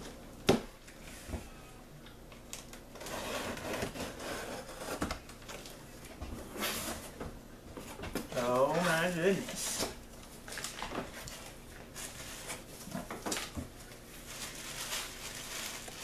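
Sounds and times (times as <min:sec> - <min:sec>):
tape and cardboard rustling: 0:02.4 - 0:16.0.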